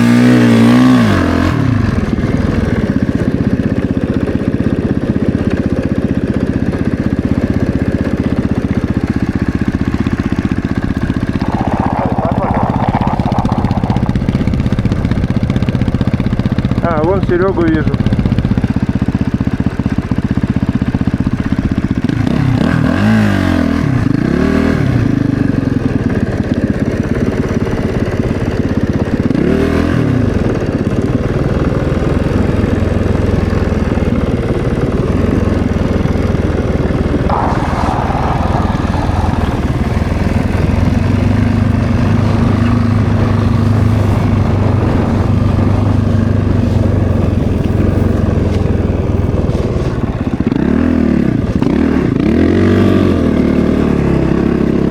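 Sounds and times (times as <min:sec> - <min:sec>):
snowbike engine revving: 0:00.0 - 0:54.9.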